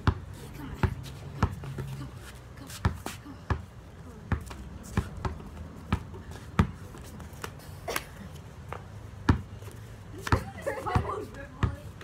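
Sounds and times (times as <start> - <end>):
basketball bouncing on concrete: 0.0 - 7.5, 8.6 - 12.0.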